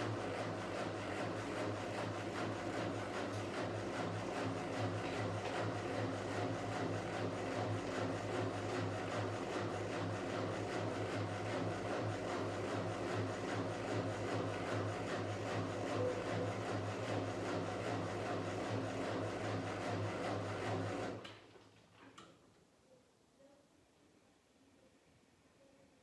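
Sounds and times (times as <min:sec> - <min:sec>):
washing machine spinning: 0:00.0 - 0:21.2.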